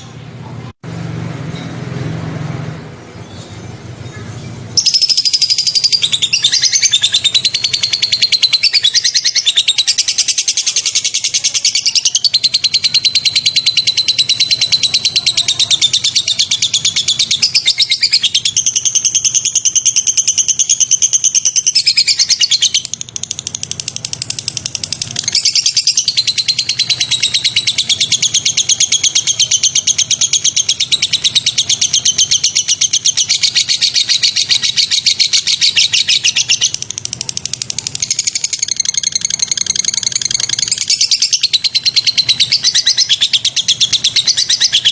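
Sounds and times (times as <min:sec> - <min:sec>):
songbird chattering trill: 0:03.2 - 0:44.9.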